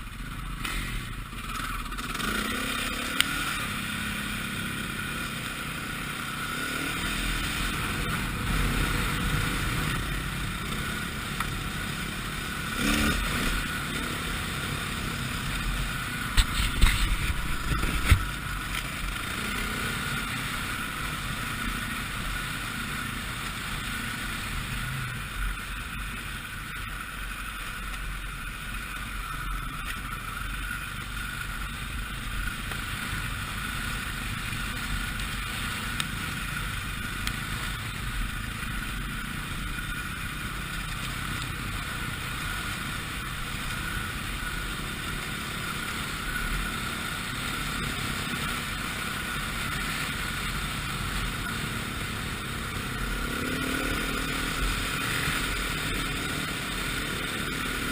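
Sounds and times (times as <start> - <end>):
dirt bike engine running: 0.0 - 57.9.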